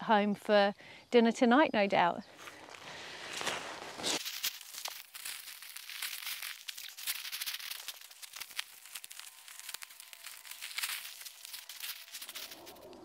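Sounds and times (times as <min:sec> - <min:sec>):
kale leaves rustling and snapping: 0:02.5 - 0:13.0.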